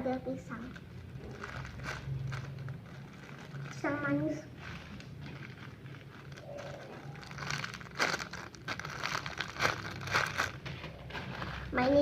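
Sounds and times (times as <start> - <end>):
material crinkling and rustling: 0.0 - 12.0.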